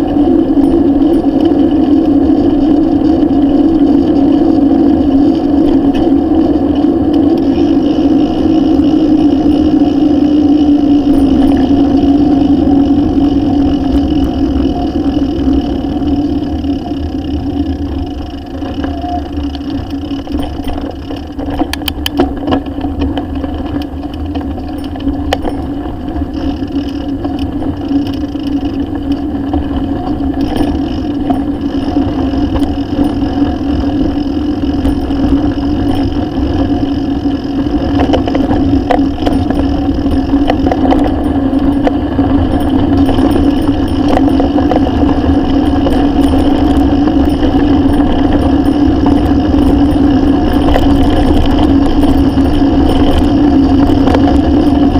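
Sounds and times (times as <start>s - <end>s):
bicycle riding on gravel: 0.0s - 54.9s
rattles and ticks: 0.0s - 54.9s
wind rumble on microphone: 0.0s - 54.9s.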